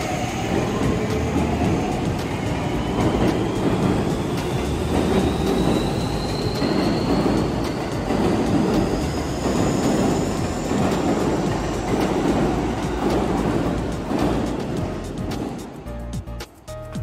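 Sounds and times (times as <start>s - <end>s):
train wheels clattering on rails: 0.0s - 16.5s.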